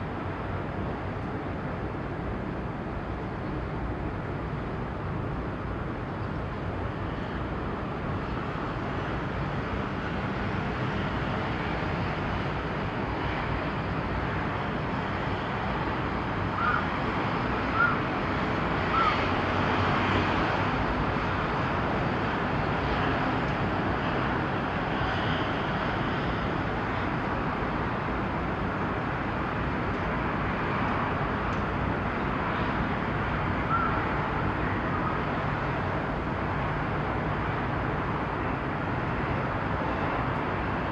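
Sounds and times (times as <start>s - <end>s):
distant traffic rumble: 0.0s - 40.9s
wind: 0.0s - 40.9s.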